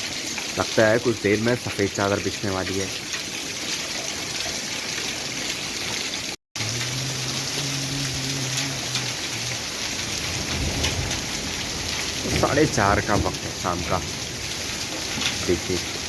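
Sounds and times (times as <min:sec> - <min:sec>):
hailstones ticking: 0:00.0 - 0:05.2, 0:06.6 - 0:16.0
heavy rain: 0:00.0 - 0:16.0.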